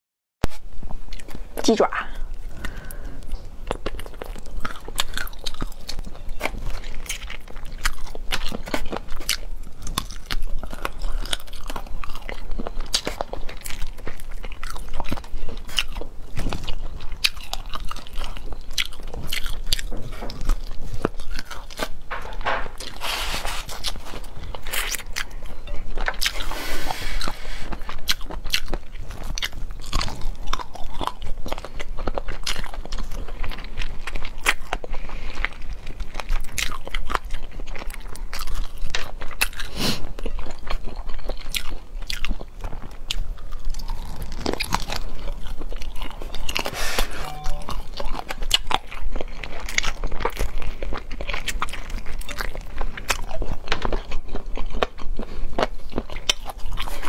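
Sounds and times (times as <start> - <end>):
close-miked chewing: 0.9 - 57.0
crunches and crackles: 2.2 - 57.0.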